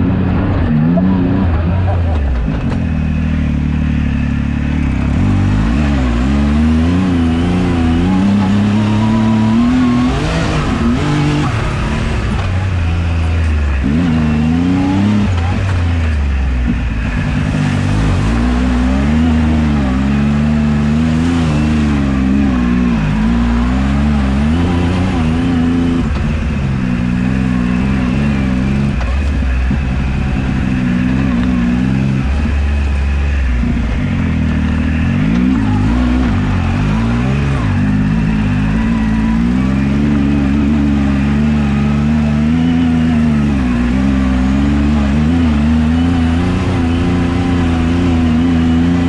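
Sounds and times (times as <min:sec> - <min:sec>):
engine revving under throttle: 0:00.0 - 0:49.0.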